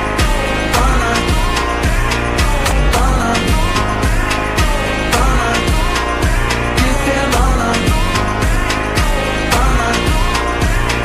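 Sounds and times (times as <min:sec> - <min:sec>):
electronic dance music: 0:00.0 - 0:11.0
sharp percussion hits: 0:00.0 - 0:11.0.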